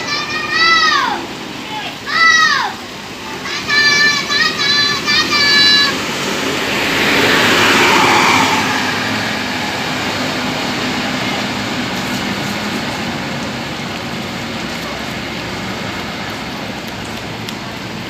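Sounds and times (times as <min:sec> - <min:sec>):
bus passing by: 0:00.0 - 0:18.0.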